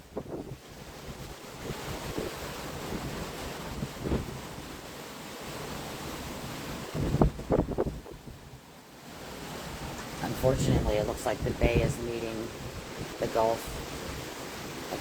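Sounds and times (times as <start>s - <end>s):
wind rushing over microphone: 0.0s - 8.6s, 9.4s - 15.0s
waves surging: 0.0s - 15.0s.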